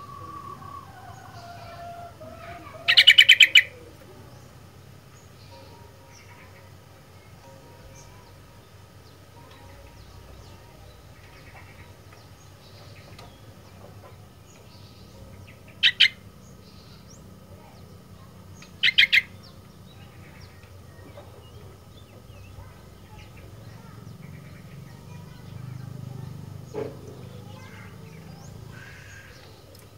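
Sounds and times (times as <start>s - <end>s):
faint chirps: 0.0s - 29.9s
low background noise: 0.0s - 29.9s.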